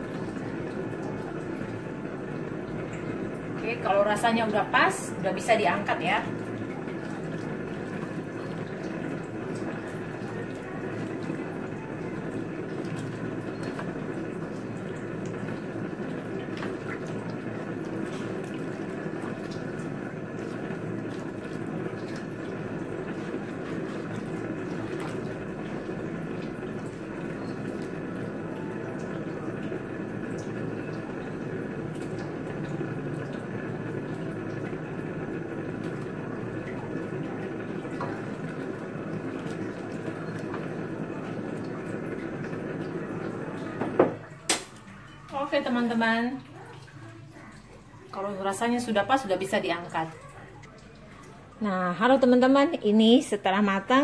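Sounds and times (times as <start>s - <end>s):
sauce simmering in a wok: 0.0s - 43.4s.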